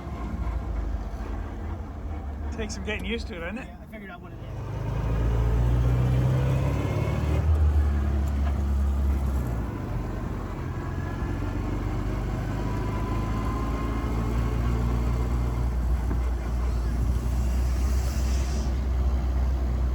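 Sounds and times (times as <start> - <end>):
car engine droning: 0.0 - 19.9.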